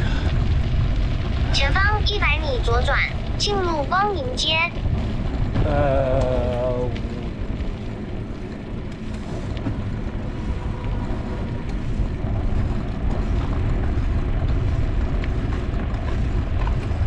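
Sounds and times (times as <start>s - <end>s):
bicycle road noise: 0.0s - 17.0s
wind rumbling on microphone: 0.0s - 17.0s.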